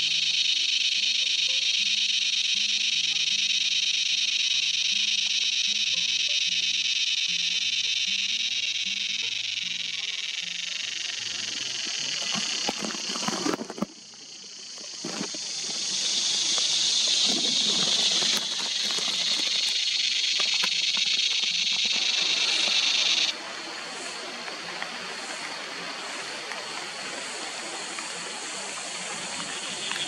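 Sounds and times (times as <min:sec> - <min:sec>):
cicada buzzing drone: 0:00.0 - 0:30.0.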